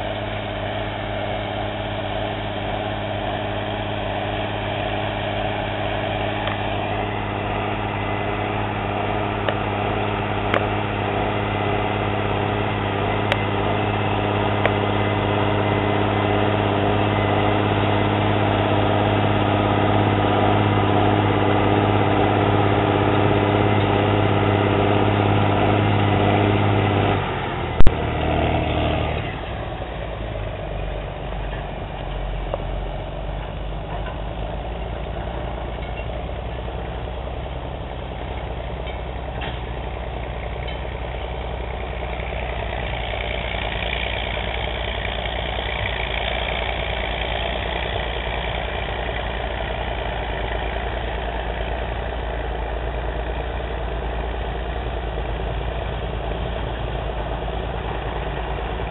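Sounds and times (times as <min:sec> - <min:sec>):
tractor diesel engine droning: 0:00.0 - 0:58.9.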